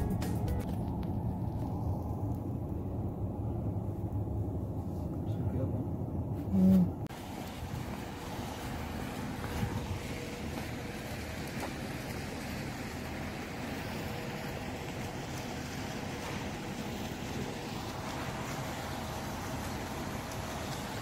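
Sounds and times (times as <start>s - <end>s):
faint steady hum: 0.0s - 21.0s
outdoor rumble and hiss: 0.0s - 21.0s
wind buffeting microphone: 0.2s - 21.0s.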